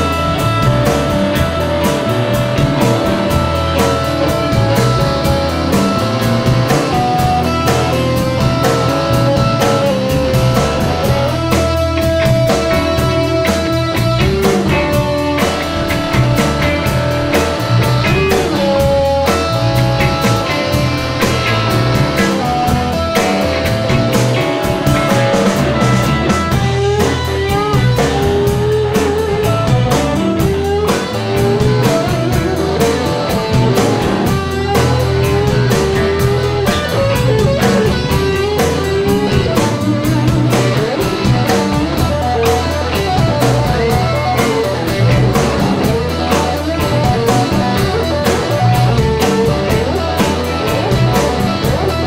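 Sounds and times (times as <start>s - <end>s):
bass guitar: 0.0s - 52.0s
drum kit: 0.0s - 52.0s
electric guitars: 0.0s - 52.0s
lead guitar with bent notes: 0.0s - 52.0s.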